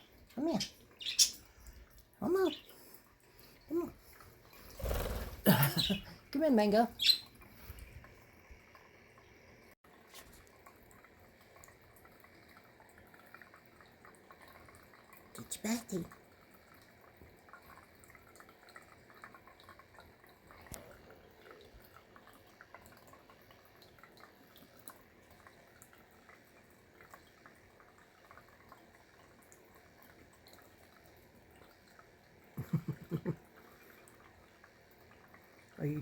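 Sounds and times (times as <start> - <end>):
water trickling and dripping: 0.0 - 36.0.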